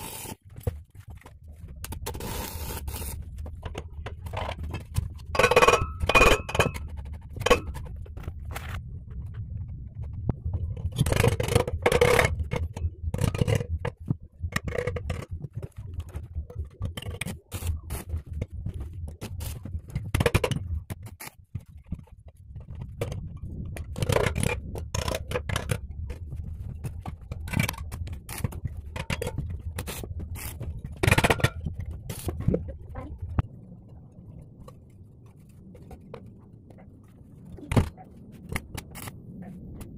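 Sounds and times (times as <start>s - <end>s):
low steady rumble: 0.0s - 39.9s.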